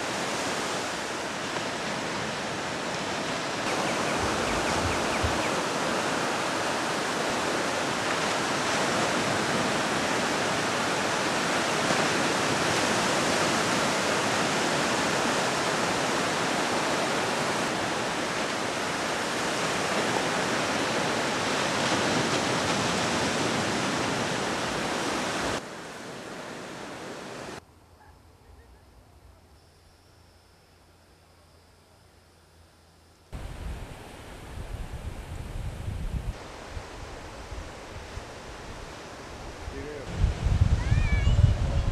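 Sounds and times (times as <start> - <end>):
ocean surf washing on beach: 0.0 - 27.6, 33.4 - 41.9.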